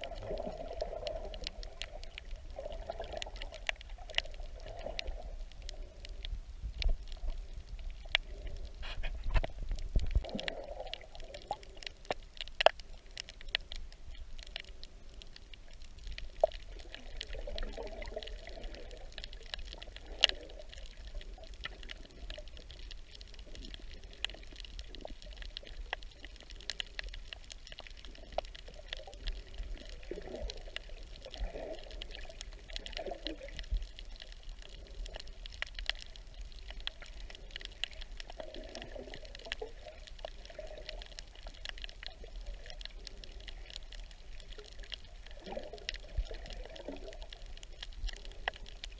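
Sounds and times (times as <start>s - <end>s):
low underwater rumble: 0.0s - 48.9s
sharp clicks and crackles: 0.0s - 48.9s
water moving around microphone: 0.0s - 48.9s.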